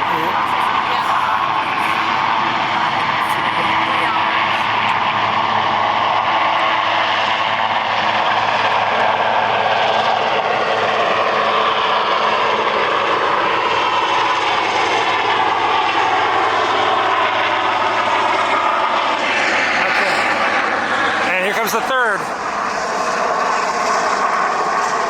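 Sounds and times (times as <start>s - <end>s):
helicopter engine and rotor noise: 0.0s - 25.0s.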